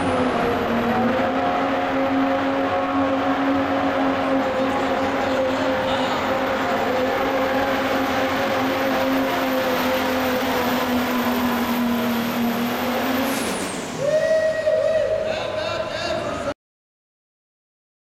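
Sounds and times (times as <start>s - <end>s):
diesel engine at full throttle: 0.0s - 16.6s.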